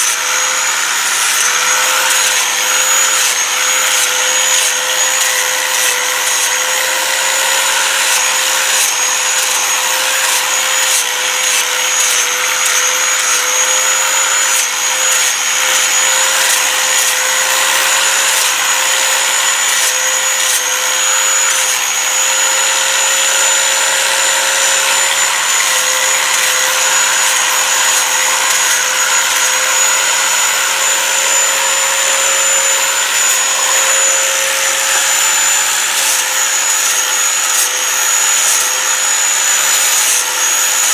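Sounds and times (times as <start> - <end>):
angle grinder sanding wood: 0.0 - 40.9.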